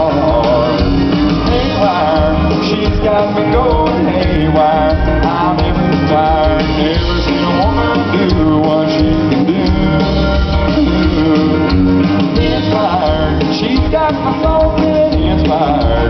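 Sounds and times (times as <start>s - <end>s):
live country band playing: 0.0s - 16.0s.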